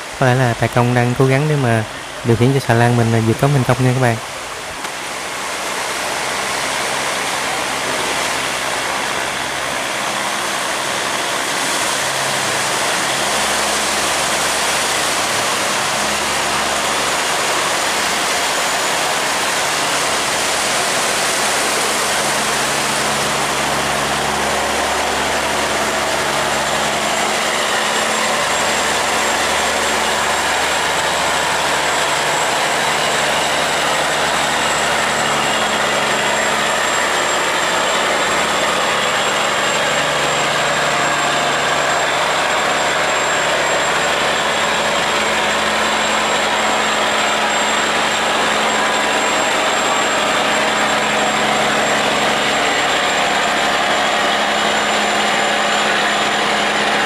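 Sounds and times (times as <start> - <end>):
boat engine humming: 0.0 - 57.0
water rushing along boat hull: 0.0 - 57.0.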